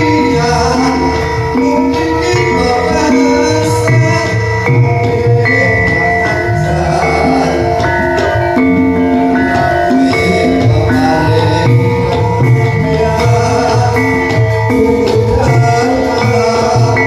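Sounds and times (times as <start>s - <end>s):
bronze metallophones ringing: 0.0s - 17.0s.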